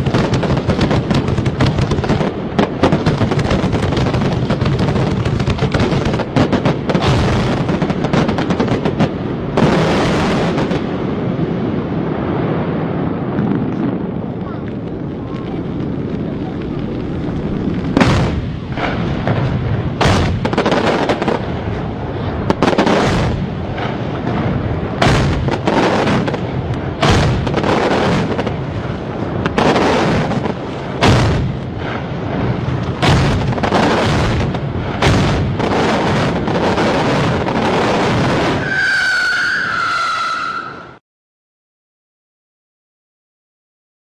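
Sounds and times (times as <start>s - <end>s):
loud fireworks bangs: 0.0s - 40.2s
fireworks crackle and rumble: 0.0s - 40.5s.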